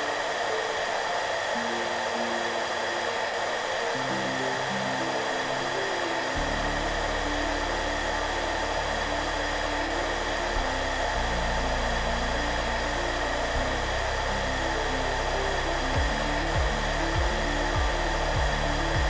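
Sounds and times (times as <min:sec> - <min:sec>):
hairdryer blowing: 0:00.0 - 0:19.0
soft background music: 0:00.0 - 0:19.0.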